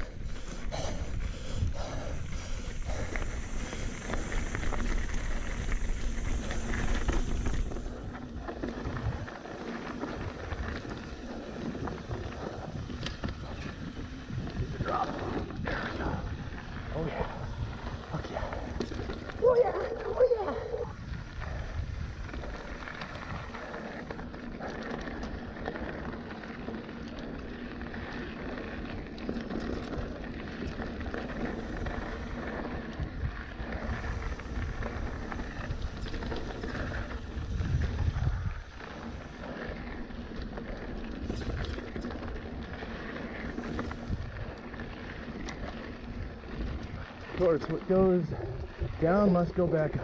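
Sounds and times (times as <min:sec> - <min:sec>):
wind noise on microphone: 0:00.0 - 0:49.2
bike tyres crunching over gravel: 0:00.0 - 0:50.0.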